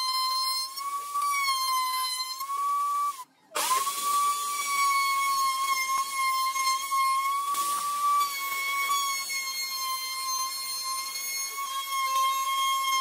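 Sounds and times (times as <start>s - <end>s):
router high-pitched whine: 0.0s - 13.0s.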